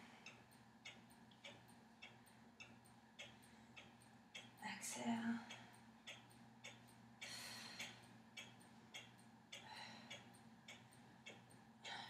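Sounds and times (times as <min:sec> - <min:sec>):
faint regular ticking: 0:00.0 - 0:12.0.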